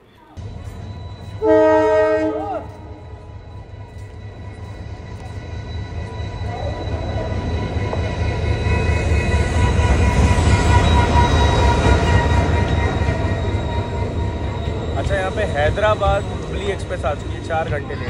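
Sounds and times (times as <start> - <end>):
high squeal of wheels and brakes: 0.0 - 1.9, 2.5 - 18.0
train rumble: 0.3 - 18.0.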